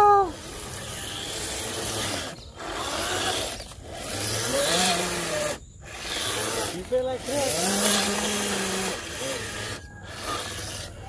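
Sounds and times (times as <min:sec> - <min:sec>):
gritty mechanical grinding: 0:00.0 - 0:11.0
toy truck motor whirring: 0:00.0 - 0:11.0.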